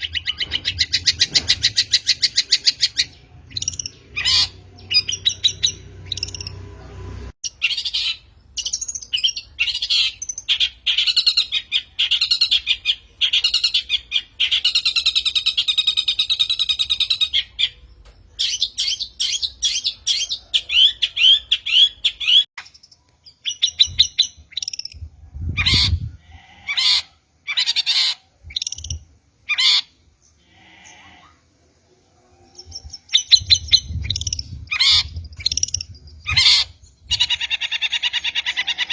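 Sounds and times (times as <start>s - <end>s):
bird chirps and trills: 0.0s - 26.1s, 32.2s - 38.9s.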